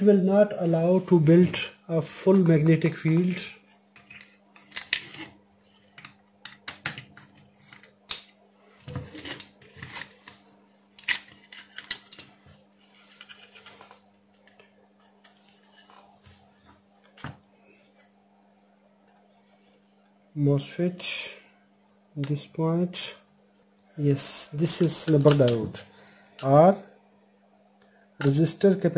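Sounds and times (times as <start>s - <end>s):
low steady hum: 0.0s - 28.9s.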